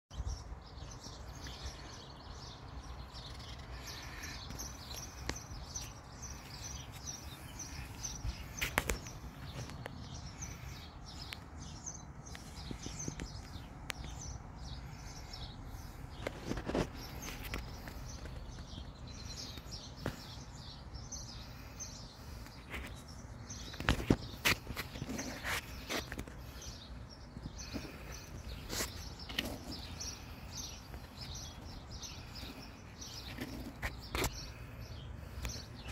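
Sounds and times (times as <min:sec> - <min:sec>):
birds chirping: 0:00.1 - 0:35.9.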